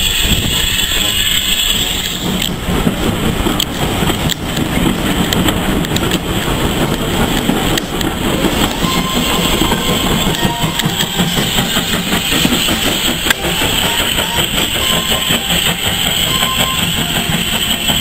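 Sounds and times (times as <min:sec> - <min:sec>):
train wheels rumbling: 0:00.0 - 0:18.0
wheels clicking over rail joints: 0:00.0 - 0:18.0.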